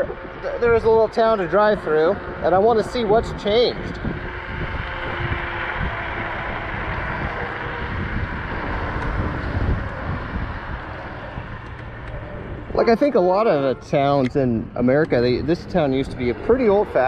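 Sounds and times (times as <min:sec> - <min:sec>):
low road rumble: 0:00.0 - 0:17.0
wind rushing over microphone: 0:00.0 - 0:17.0.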